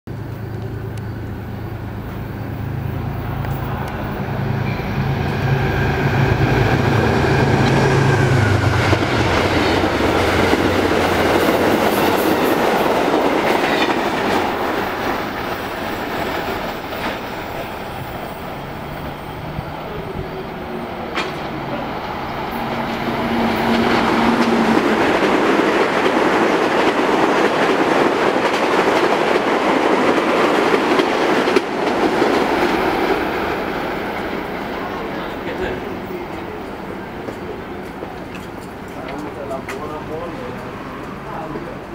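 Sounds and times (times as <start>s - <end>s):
diesel locomotive engine drone: 0.1s - 41.9s
train wheels clattering over rails: 5.2s - 41.9s.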